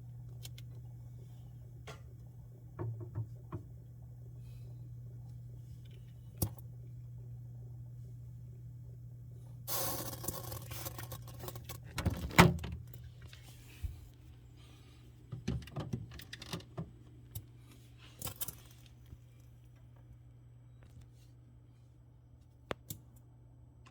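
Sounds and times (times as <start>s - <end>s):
refrigerator humming: 0.0s - 23.9s.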